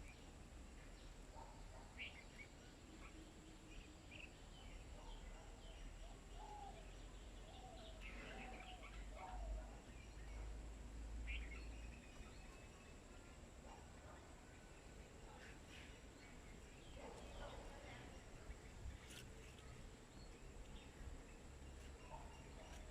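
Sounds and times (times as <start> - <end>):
faint bird chirps: 0.0 - 22.9.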